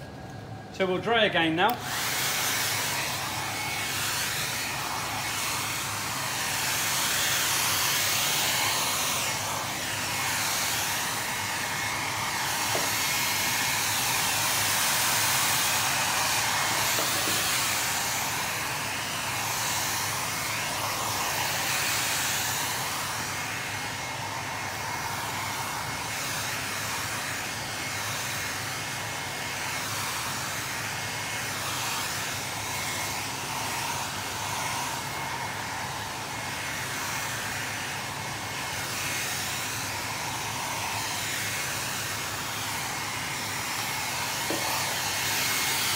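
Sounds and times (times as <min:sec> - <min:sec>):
hairdryer blowing: 0:00.0 - 0:45.9.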